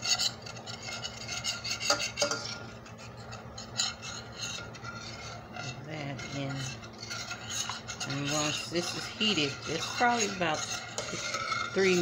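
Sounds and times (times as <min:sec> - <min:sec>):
spoon scraping pan bottom: 0:00.0 - 0:12.0
spoon stirring liquid in pan: 0:00.0 - 0:12.0.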